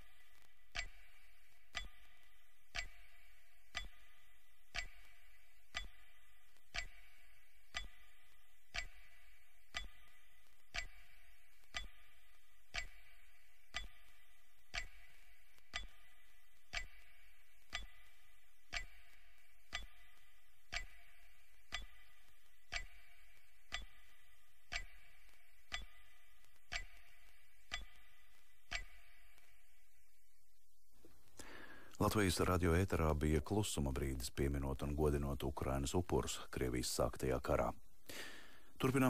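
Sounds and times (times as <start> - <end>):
clock ticking: 0.0 - 39.0
faint steady hiss: 0.0 - 39.0.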